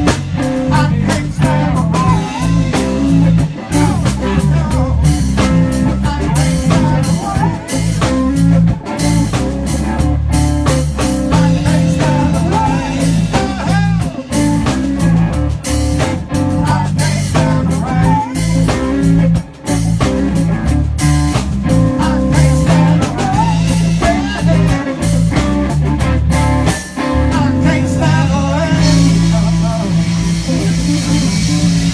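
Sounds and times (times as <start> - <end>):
bass line: 0.0 - 31.9
drum kit: 0.0 - 31.9
electric guitar bending notes: 0.0 - 31.9.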